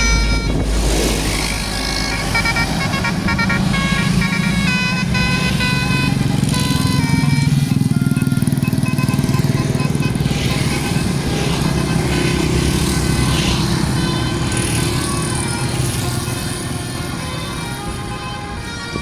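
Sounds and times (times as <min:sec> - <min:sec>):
bus engine rumble: 0:00.0 - 0:19.0
bus horn playing a tune: 0:00.0 - 0:19.0.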